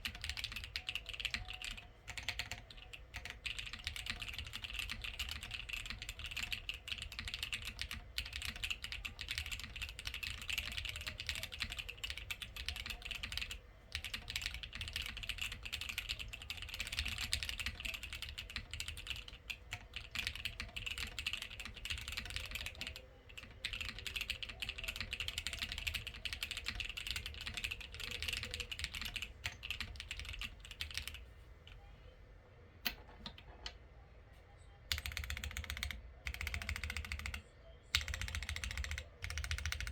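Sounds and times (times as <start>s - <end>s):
mechanical keyboard typing: 0.0s - 31.2s, 34.9s - 39.9s.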